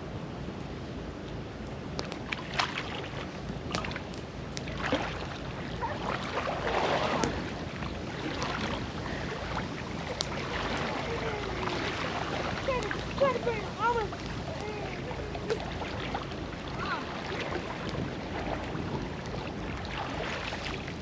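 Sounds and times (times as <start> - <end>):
wind on microphone: 0.0 - 21.0
water sloshing and splashing: 1.0 - 21.0.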